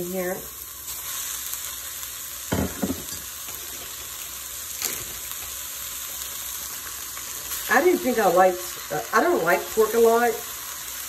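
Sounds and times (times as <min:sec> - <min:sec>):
meat and onions sizzling in oil: 0:00.0 - 0:11.0.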